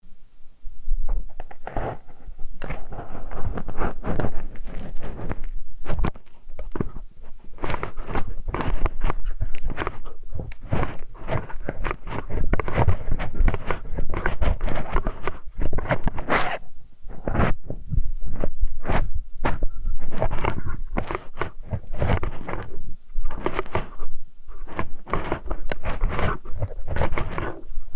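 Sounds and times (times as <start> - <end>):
scratching and rubbing at microphone: 0.9 - 27.9.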